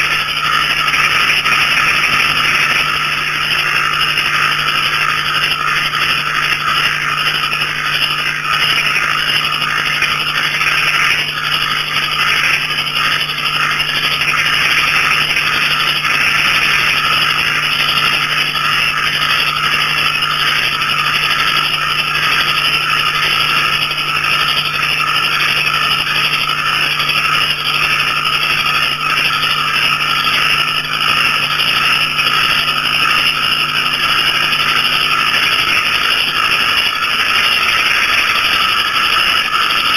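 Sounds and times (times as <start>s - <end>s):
frogs and crickets calling: 0.0s - 39.9s.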